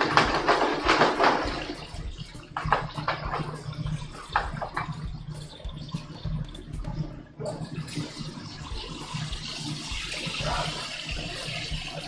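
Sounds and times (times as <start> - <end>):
kitchen exhaust hood humming: 0.0 - 12.0.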